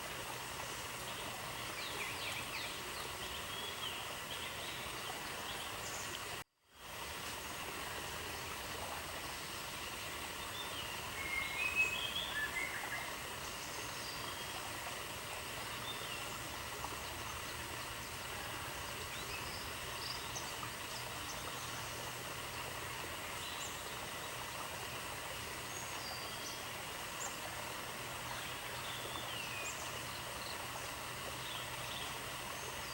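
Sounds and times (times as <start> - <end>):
outdoor ambience hiss: 0.0 - 32.9.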